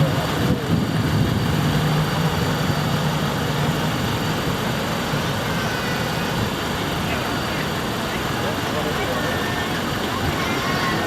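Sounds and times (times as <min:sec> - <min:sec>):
street noise: 0:00.0 - 0:11.0
vehicle engine humming: 0:00.0 - 0:11.0.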